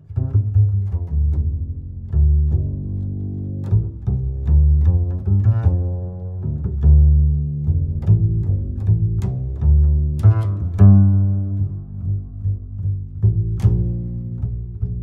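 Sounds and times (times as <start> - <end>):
cello and double bass: 0.0 - 15.0.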